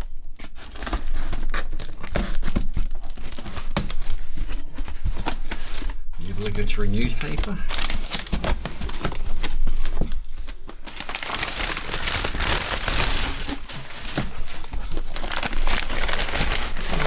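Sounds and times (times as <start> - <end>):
paper crumpling and crinkling: 0.4 - 17.0.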